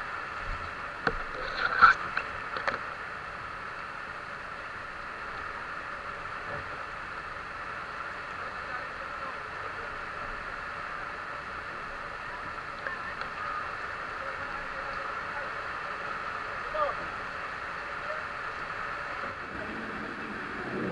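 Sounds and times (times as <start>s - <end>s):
wind-driven rain and spray: 0.0s - 20.9s.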